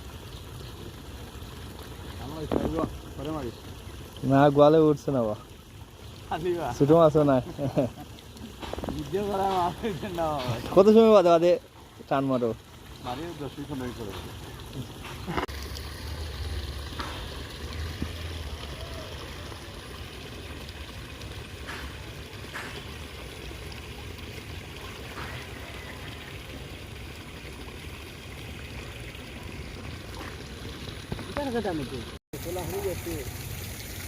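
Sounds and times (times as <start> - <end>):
flowing river water: 0.0 - 34.0.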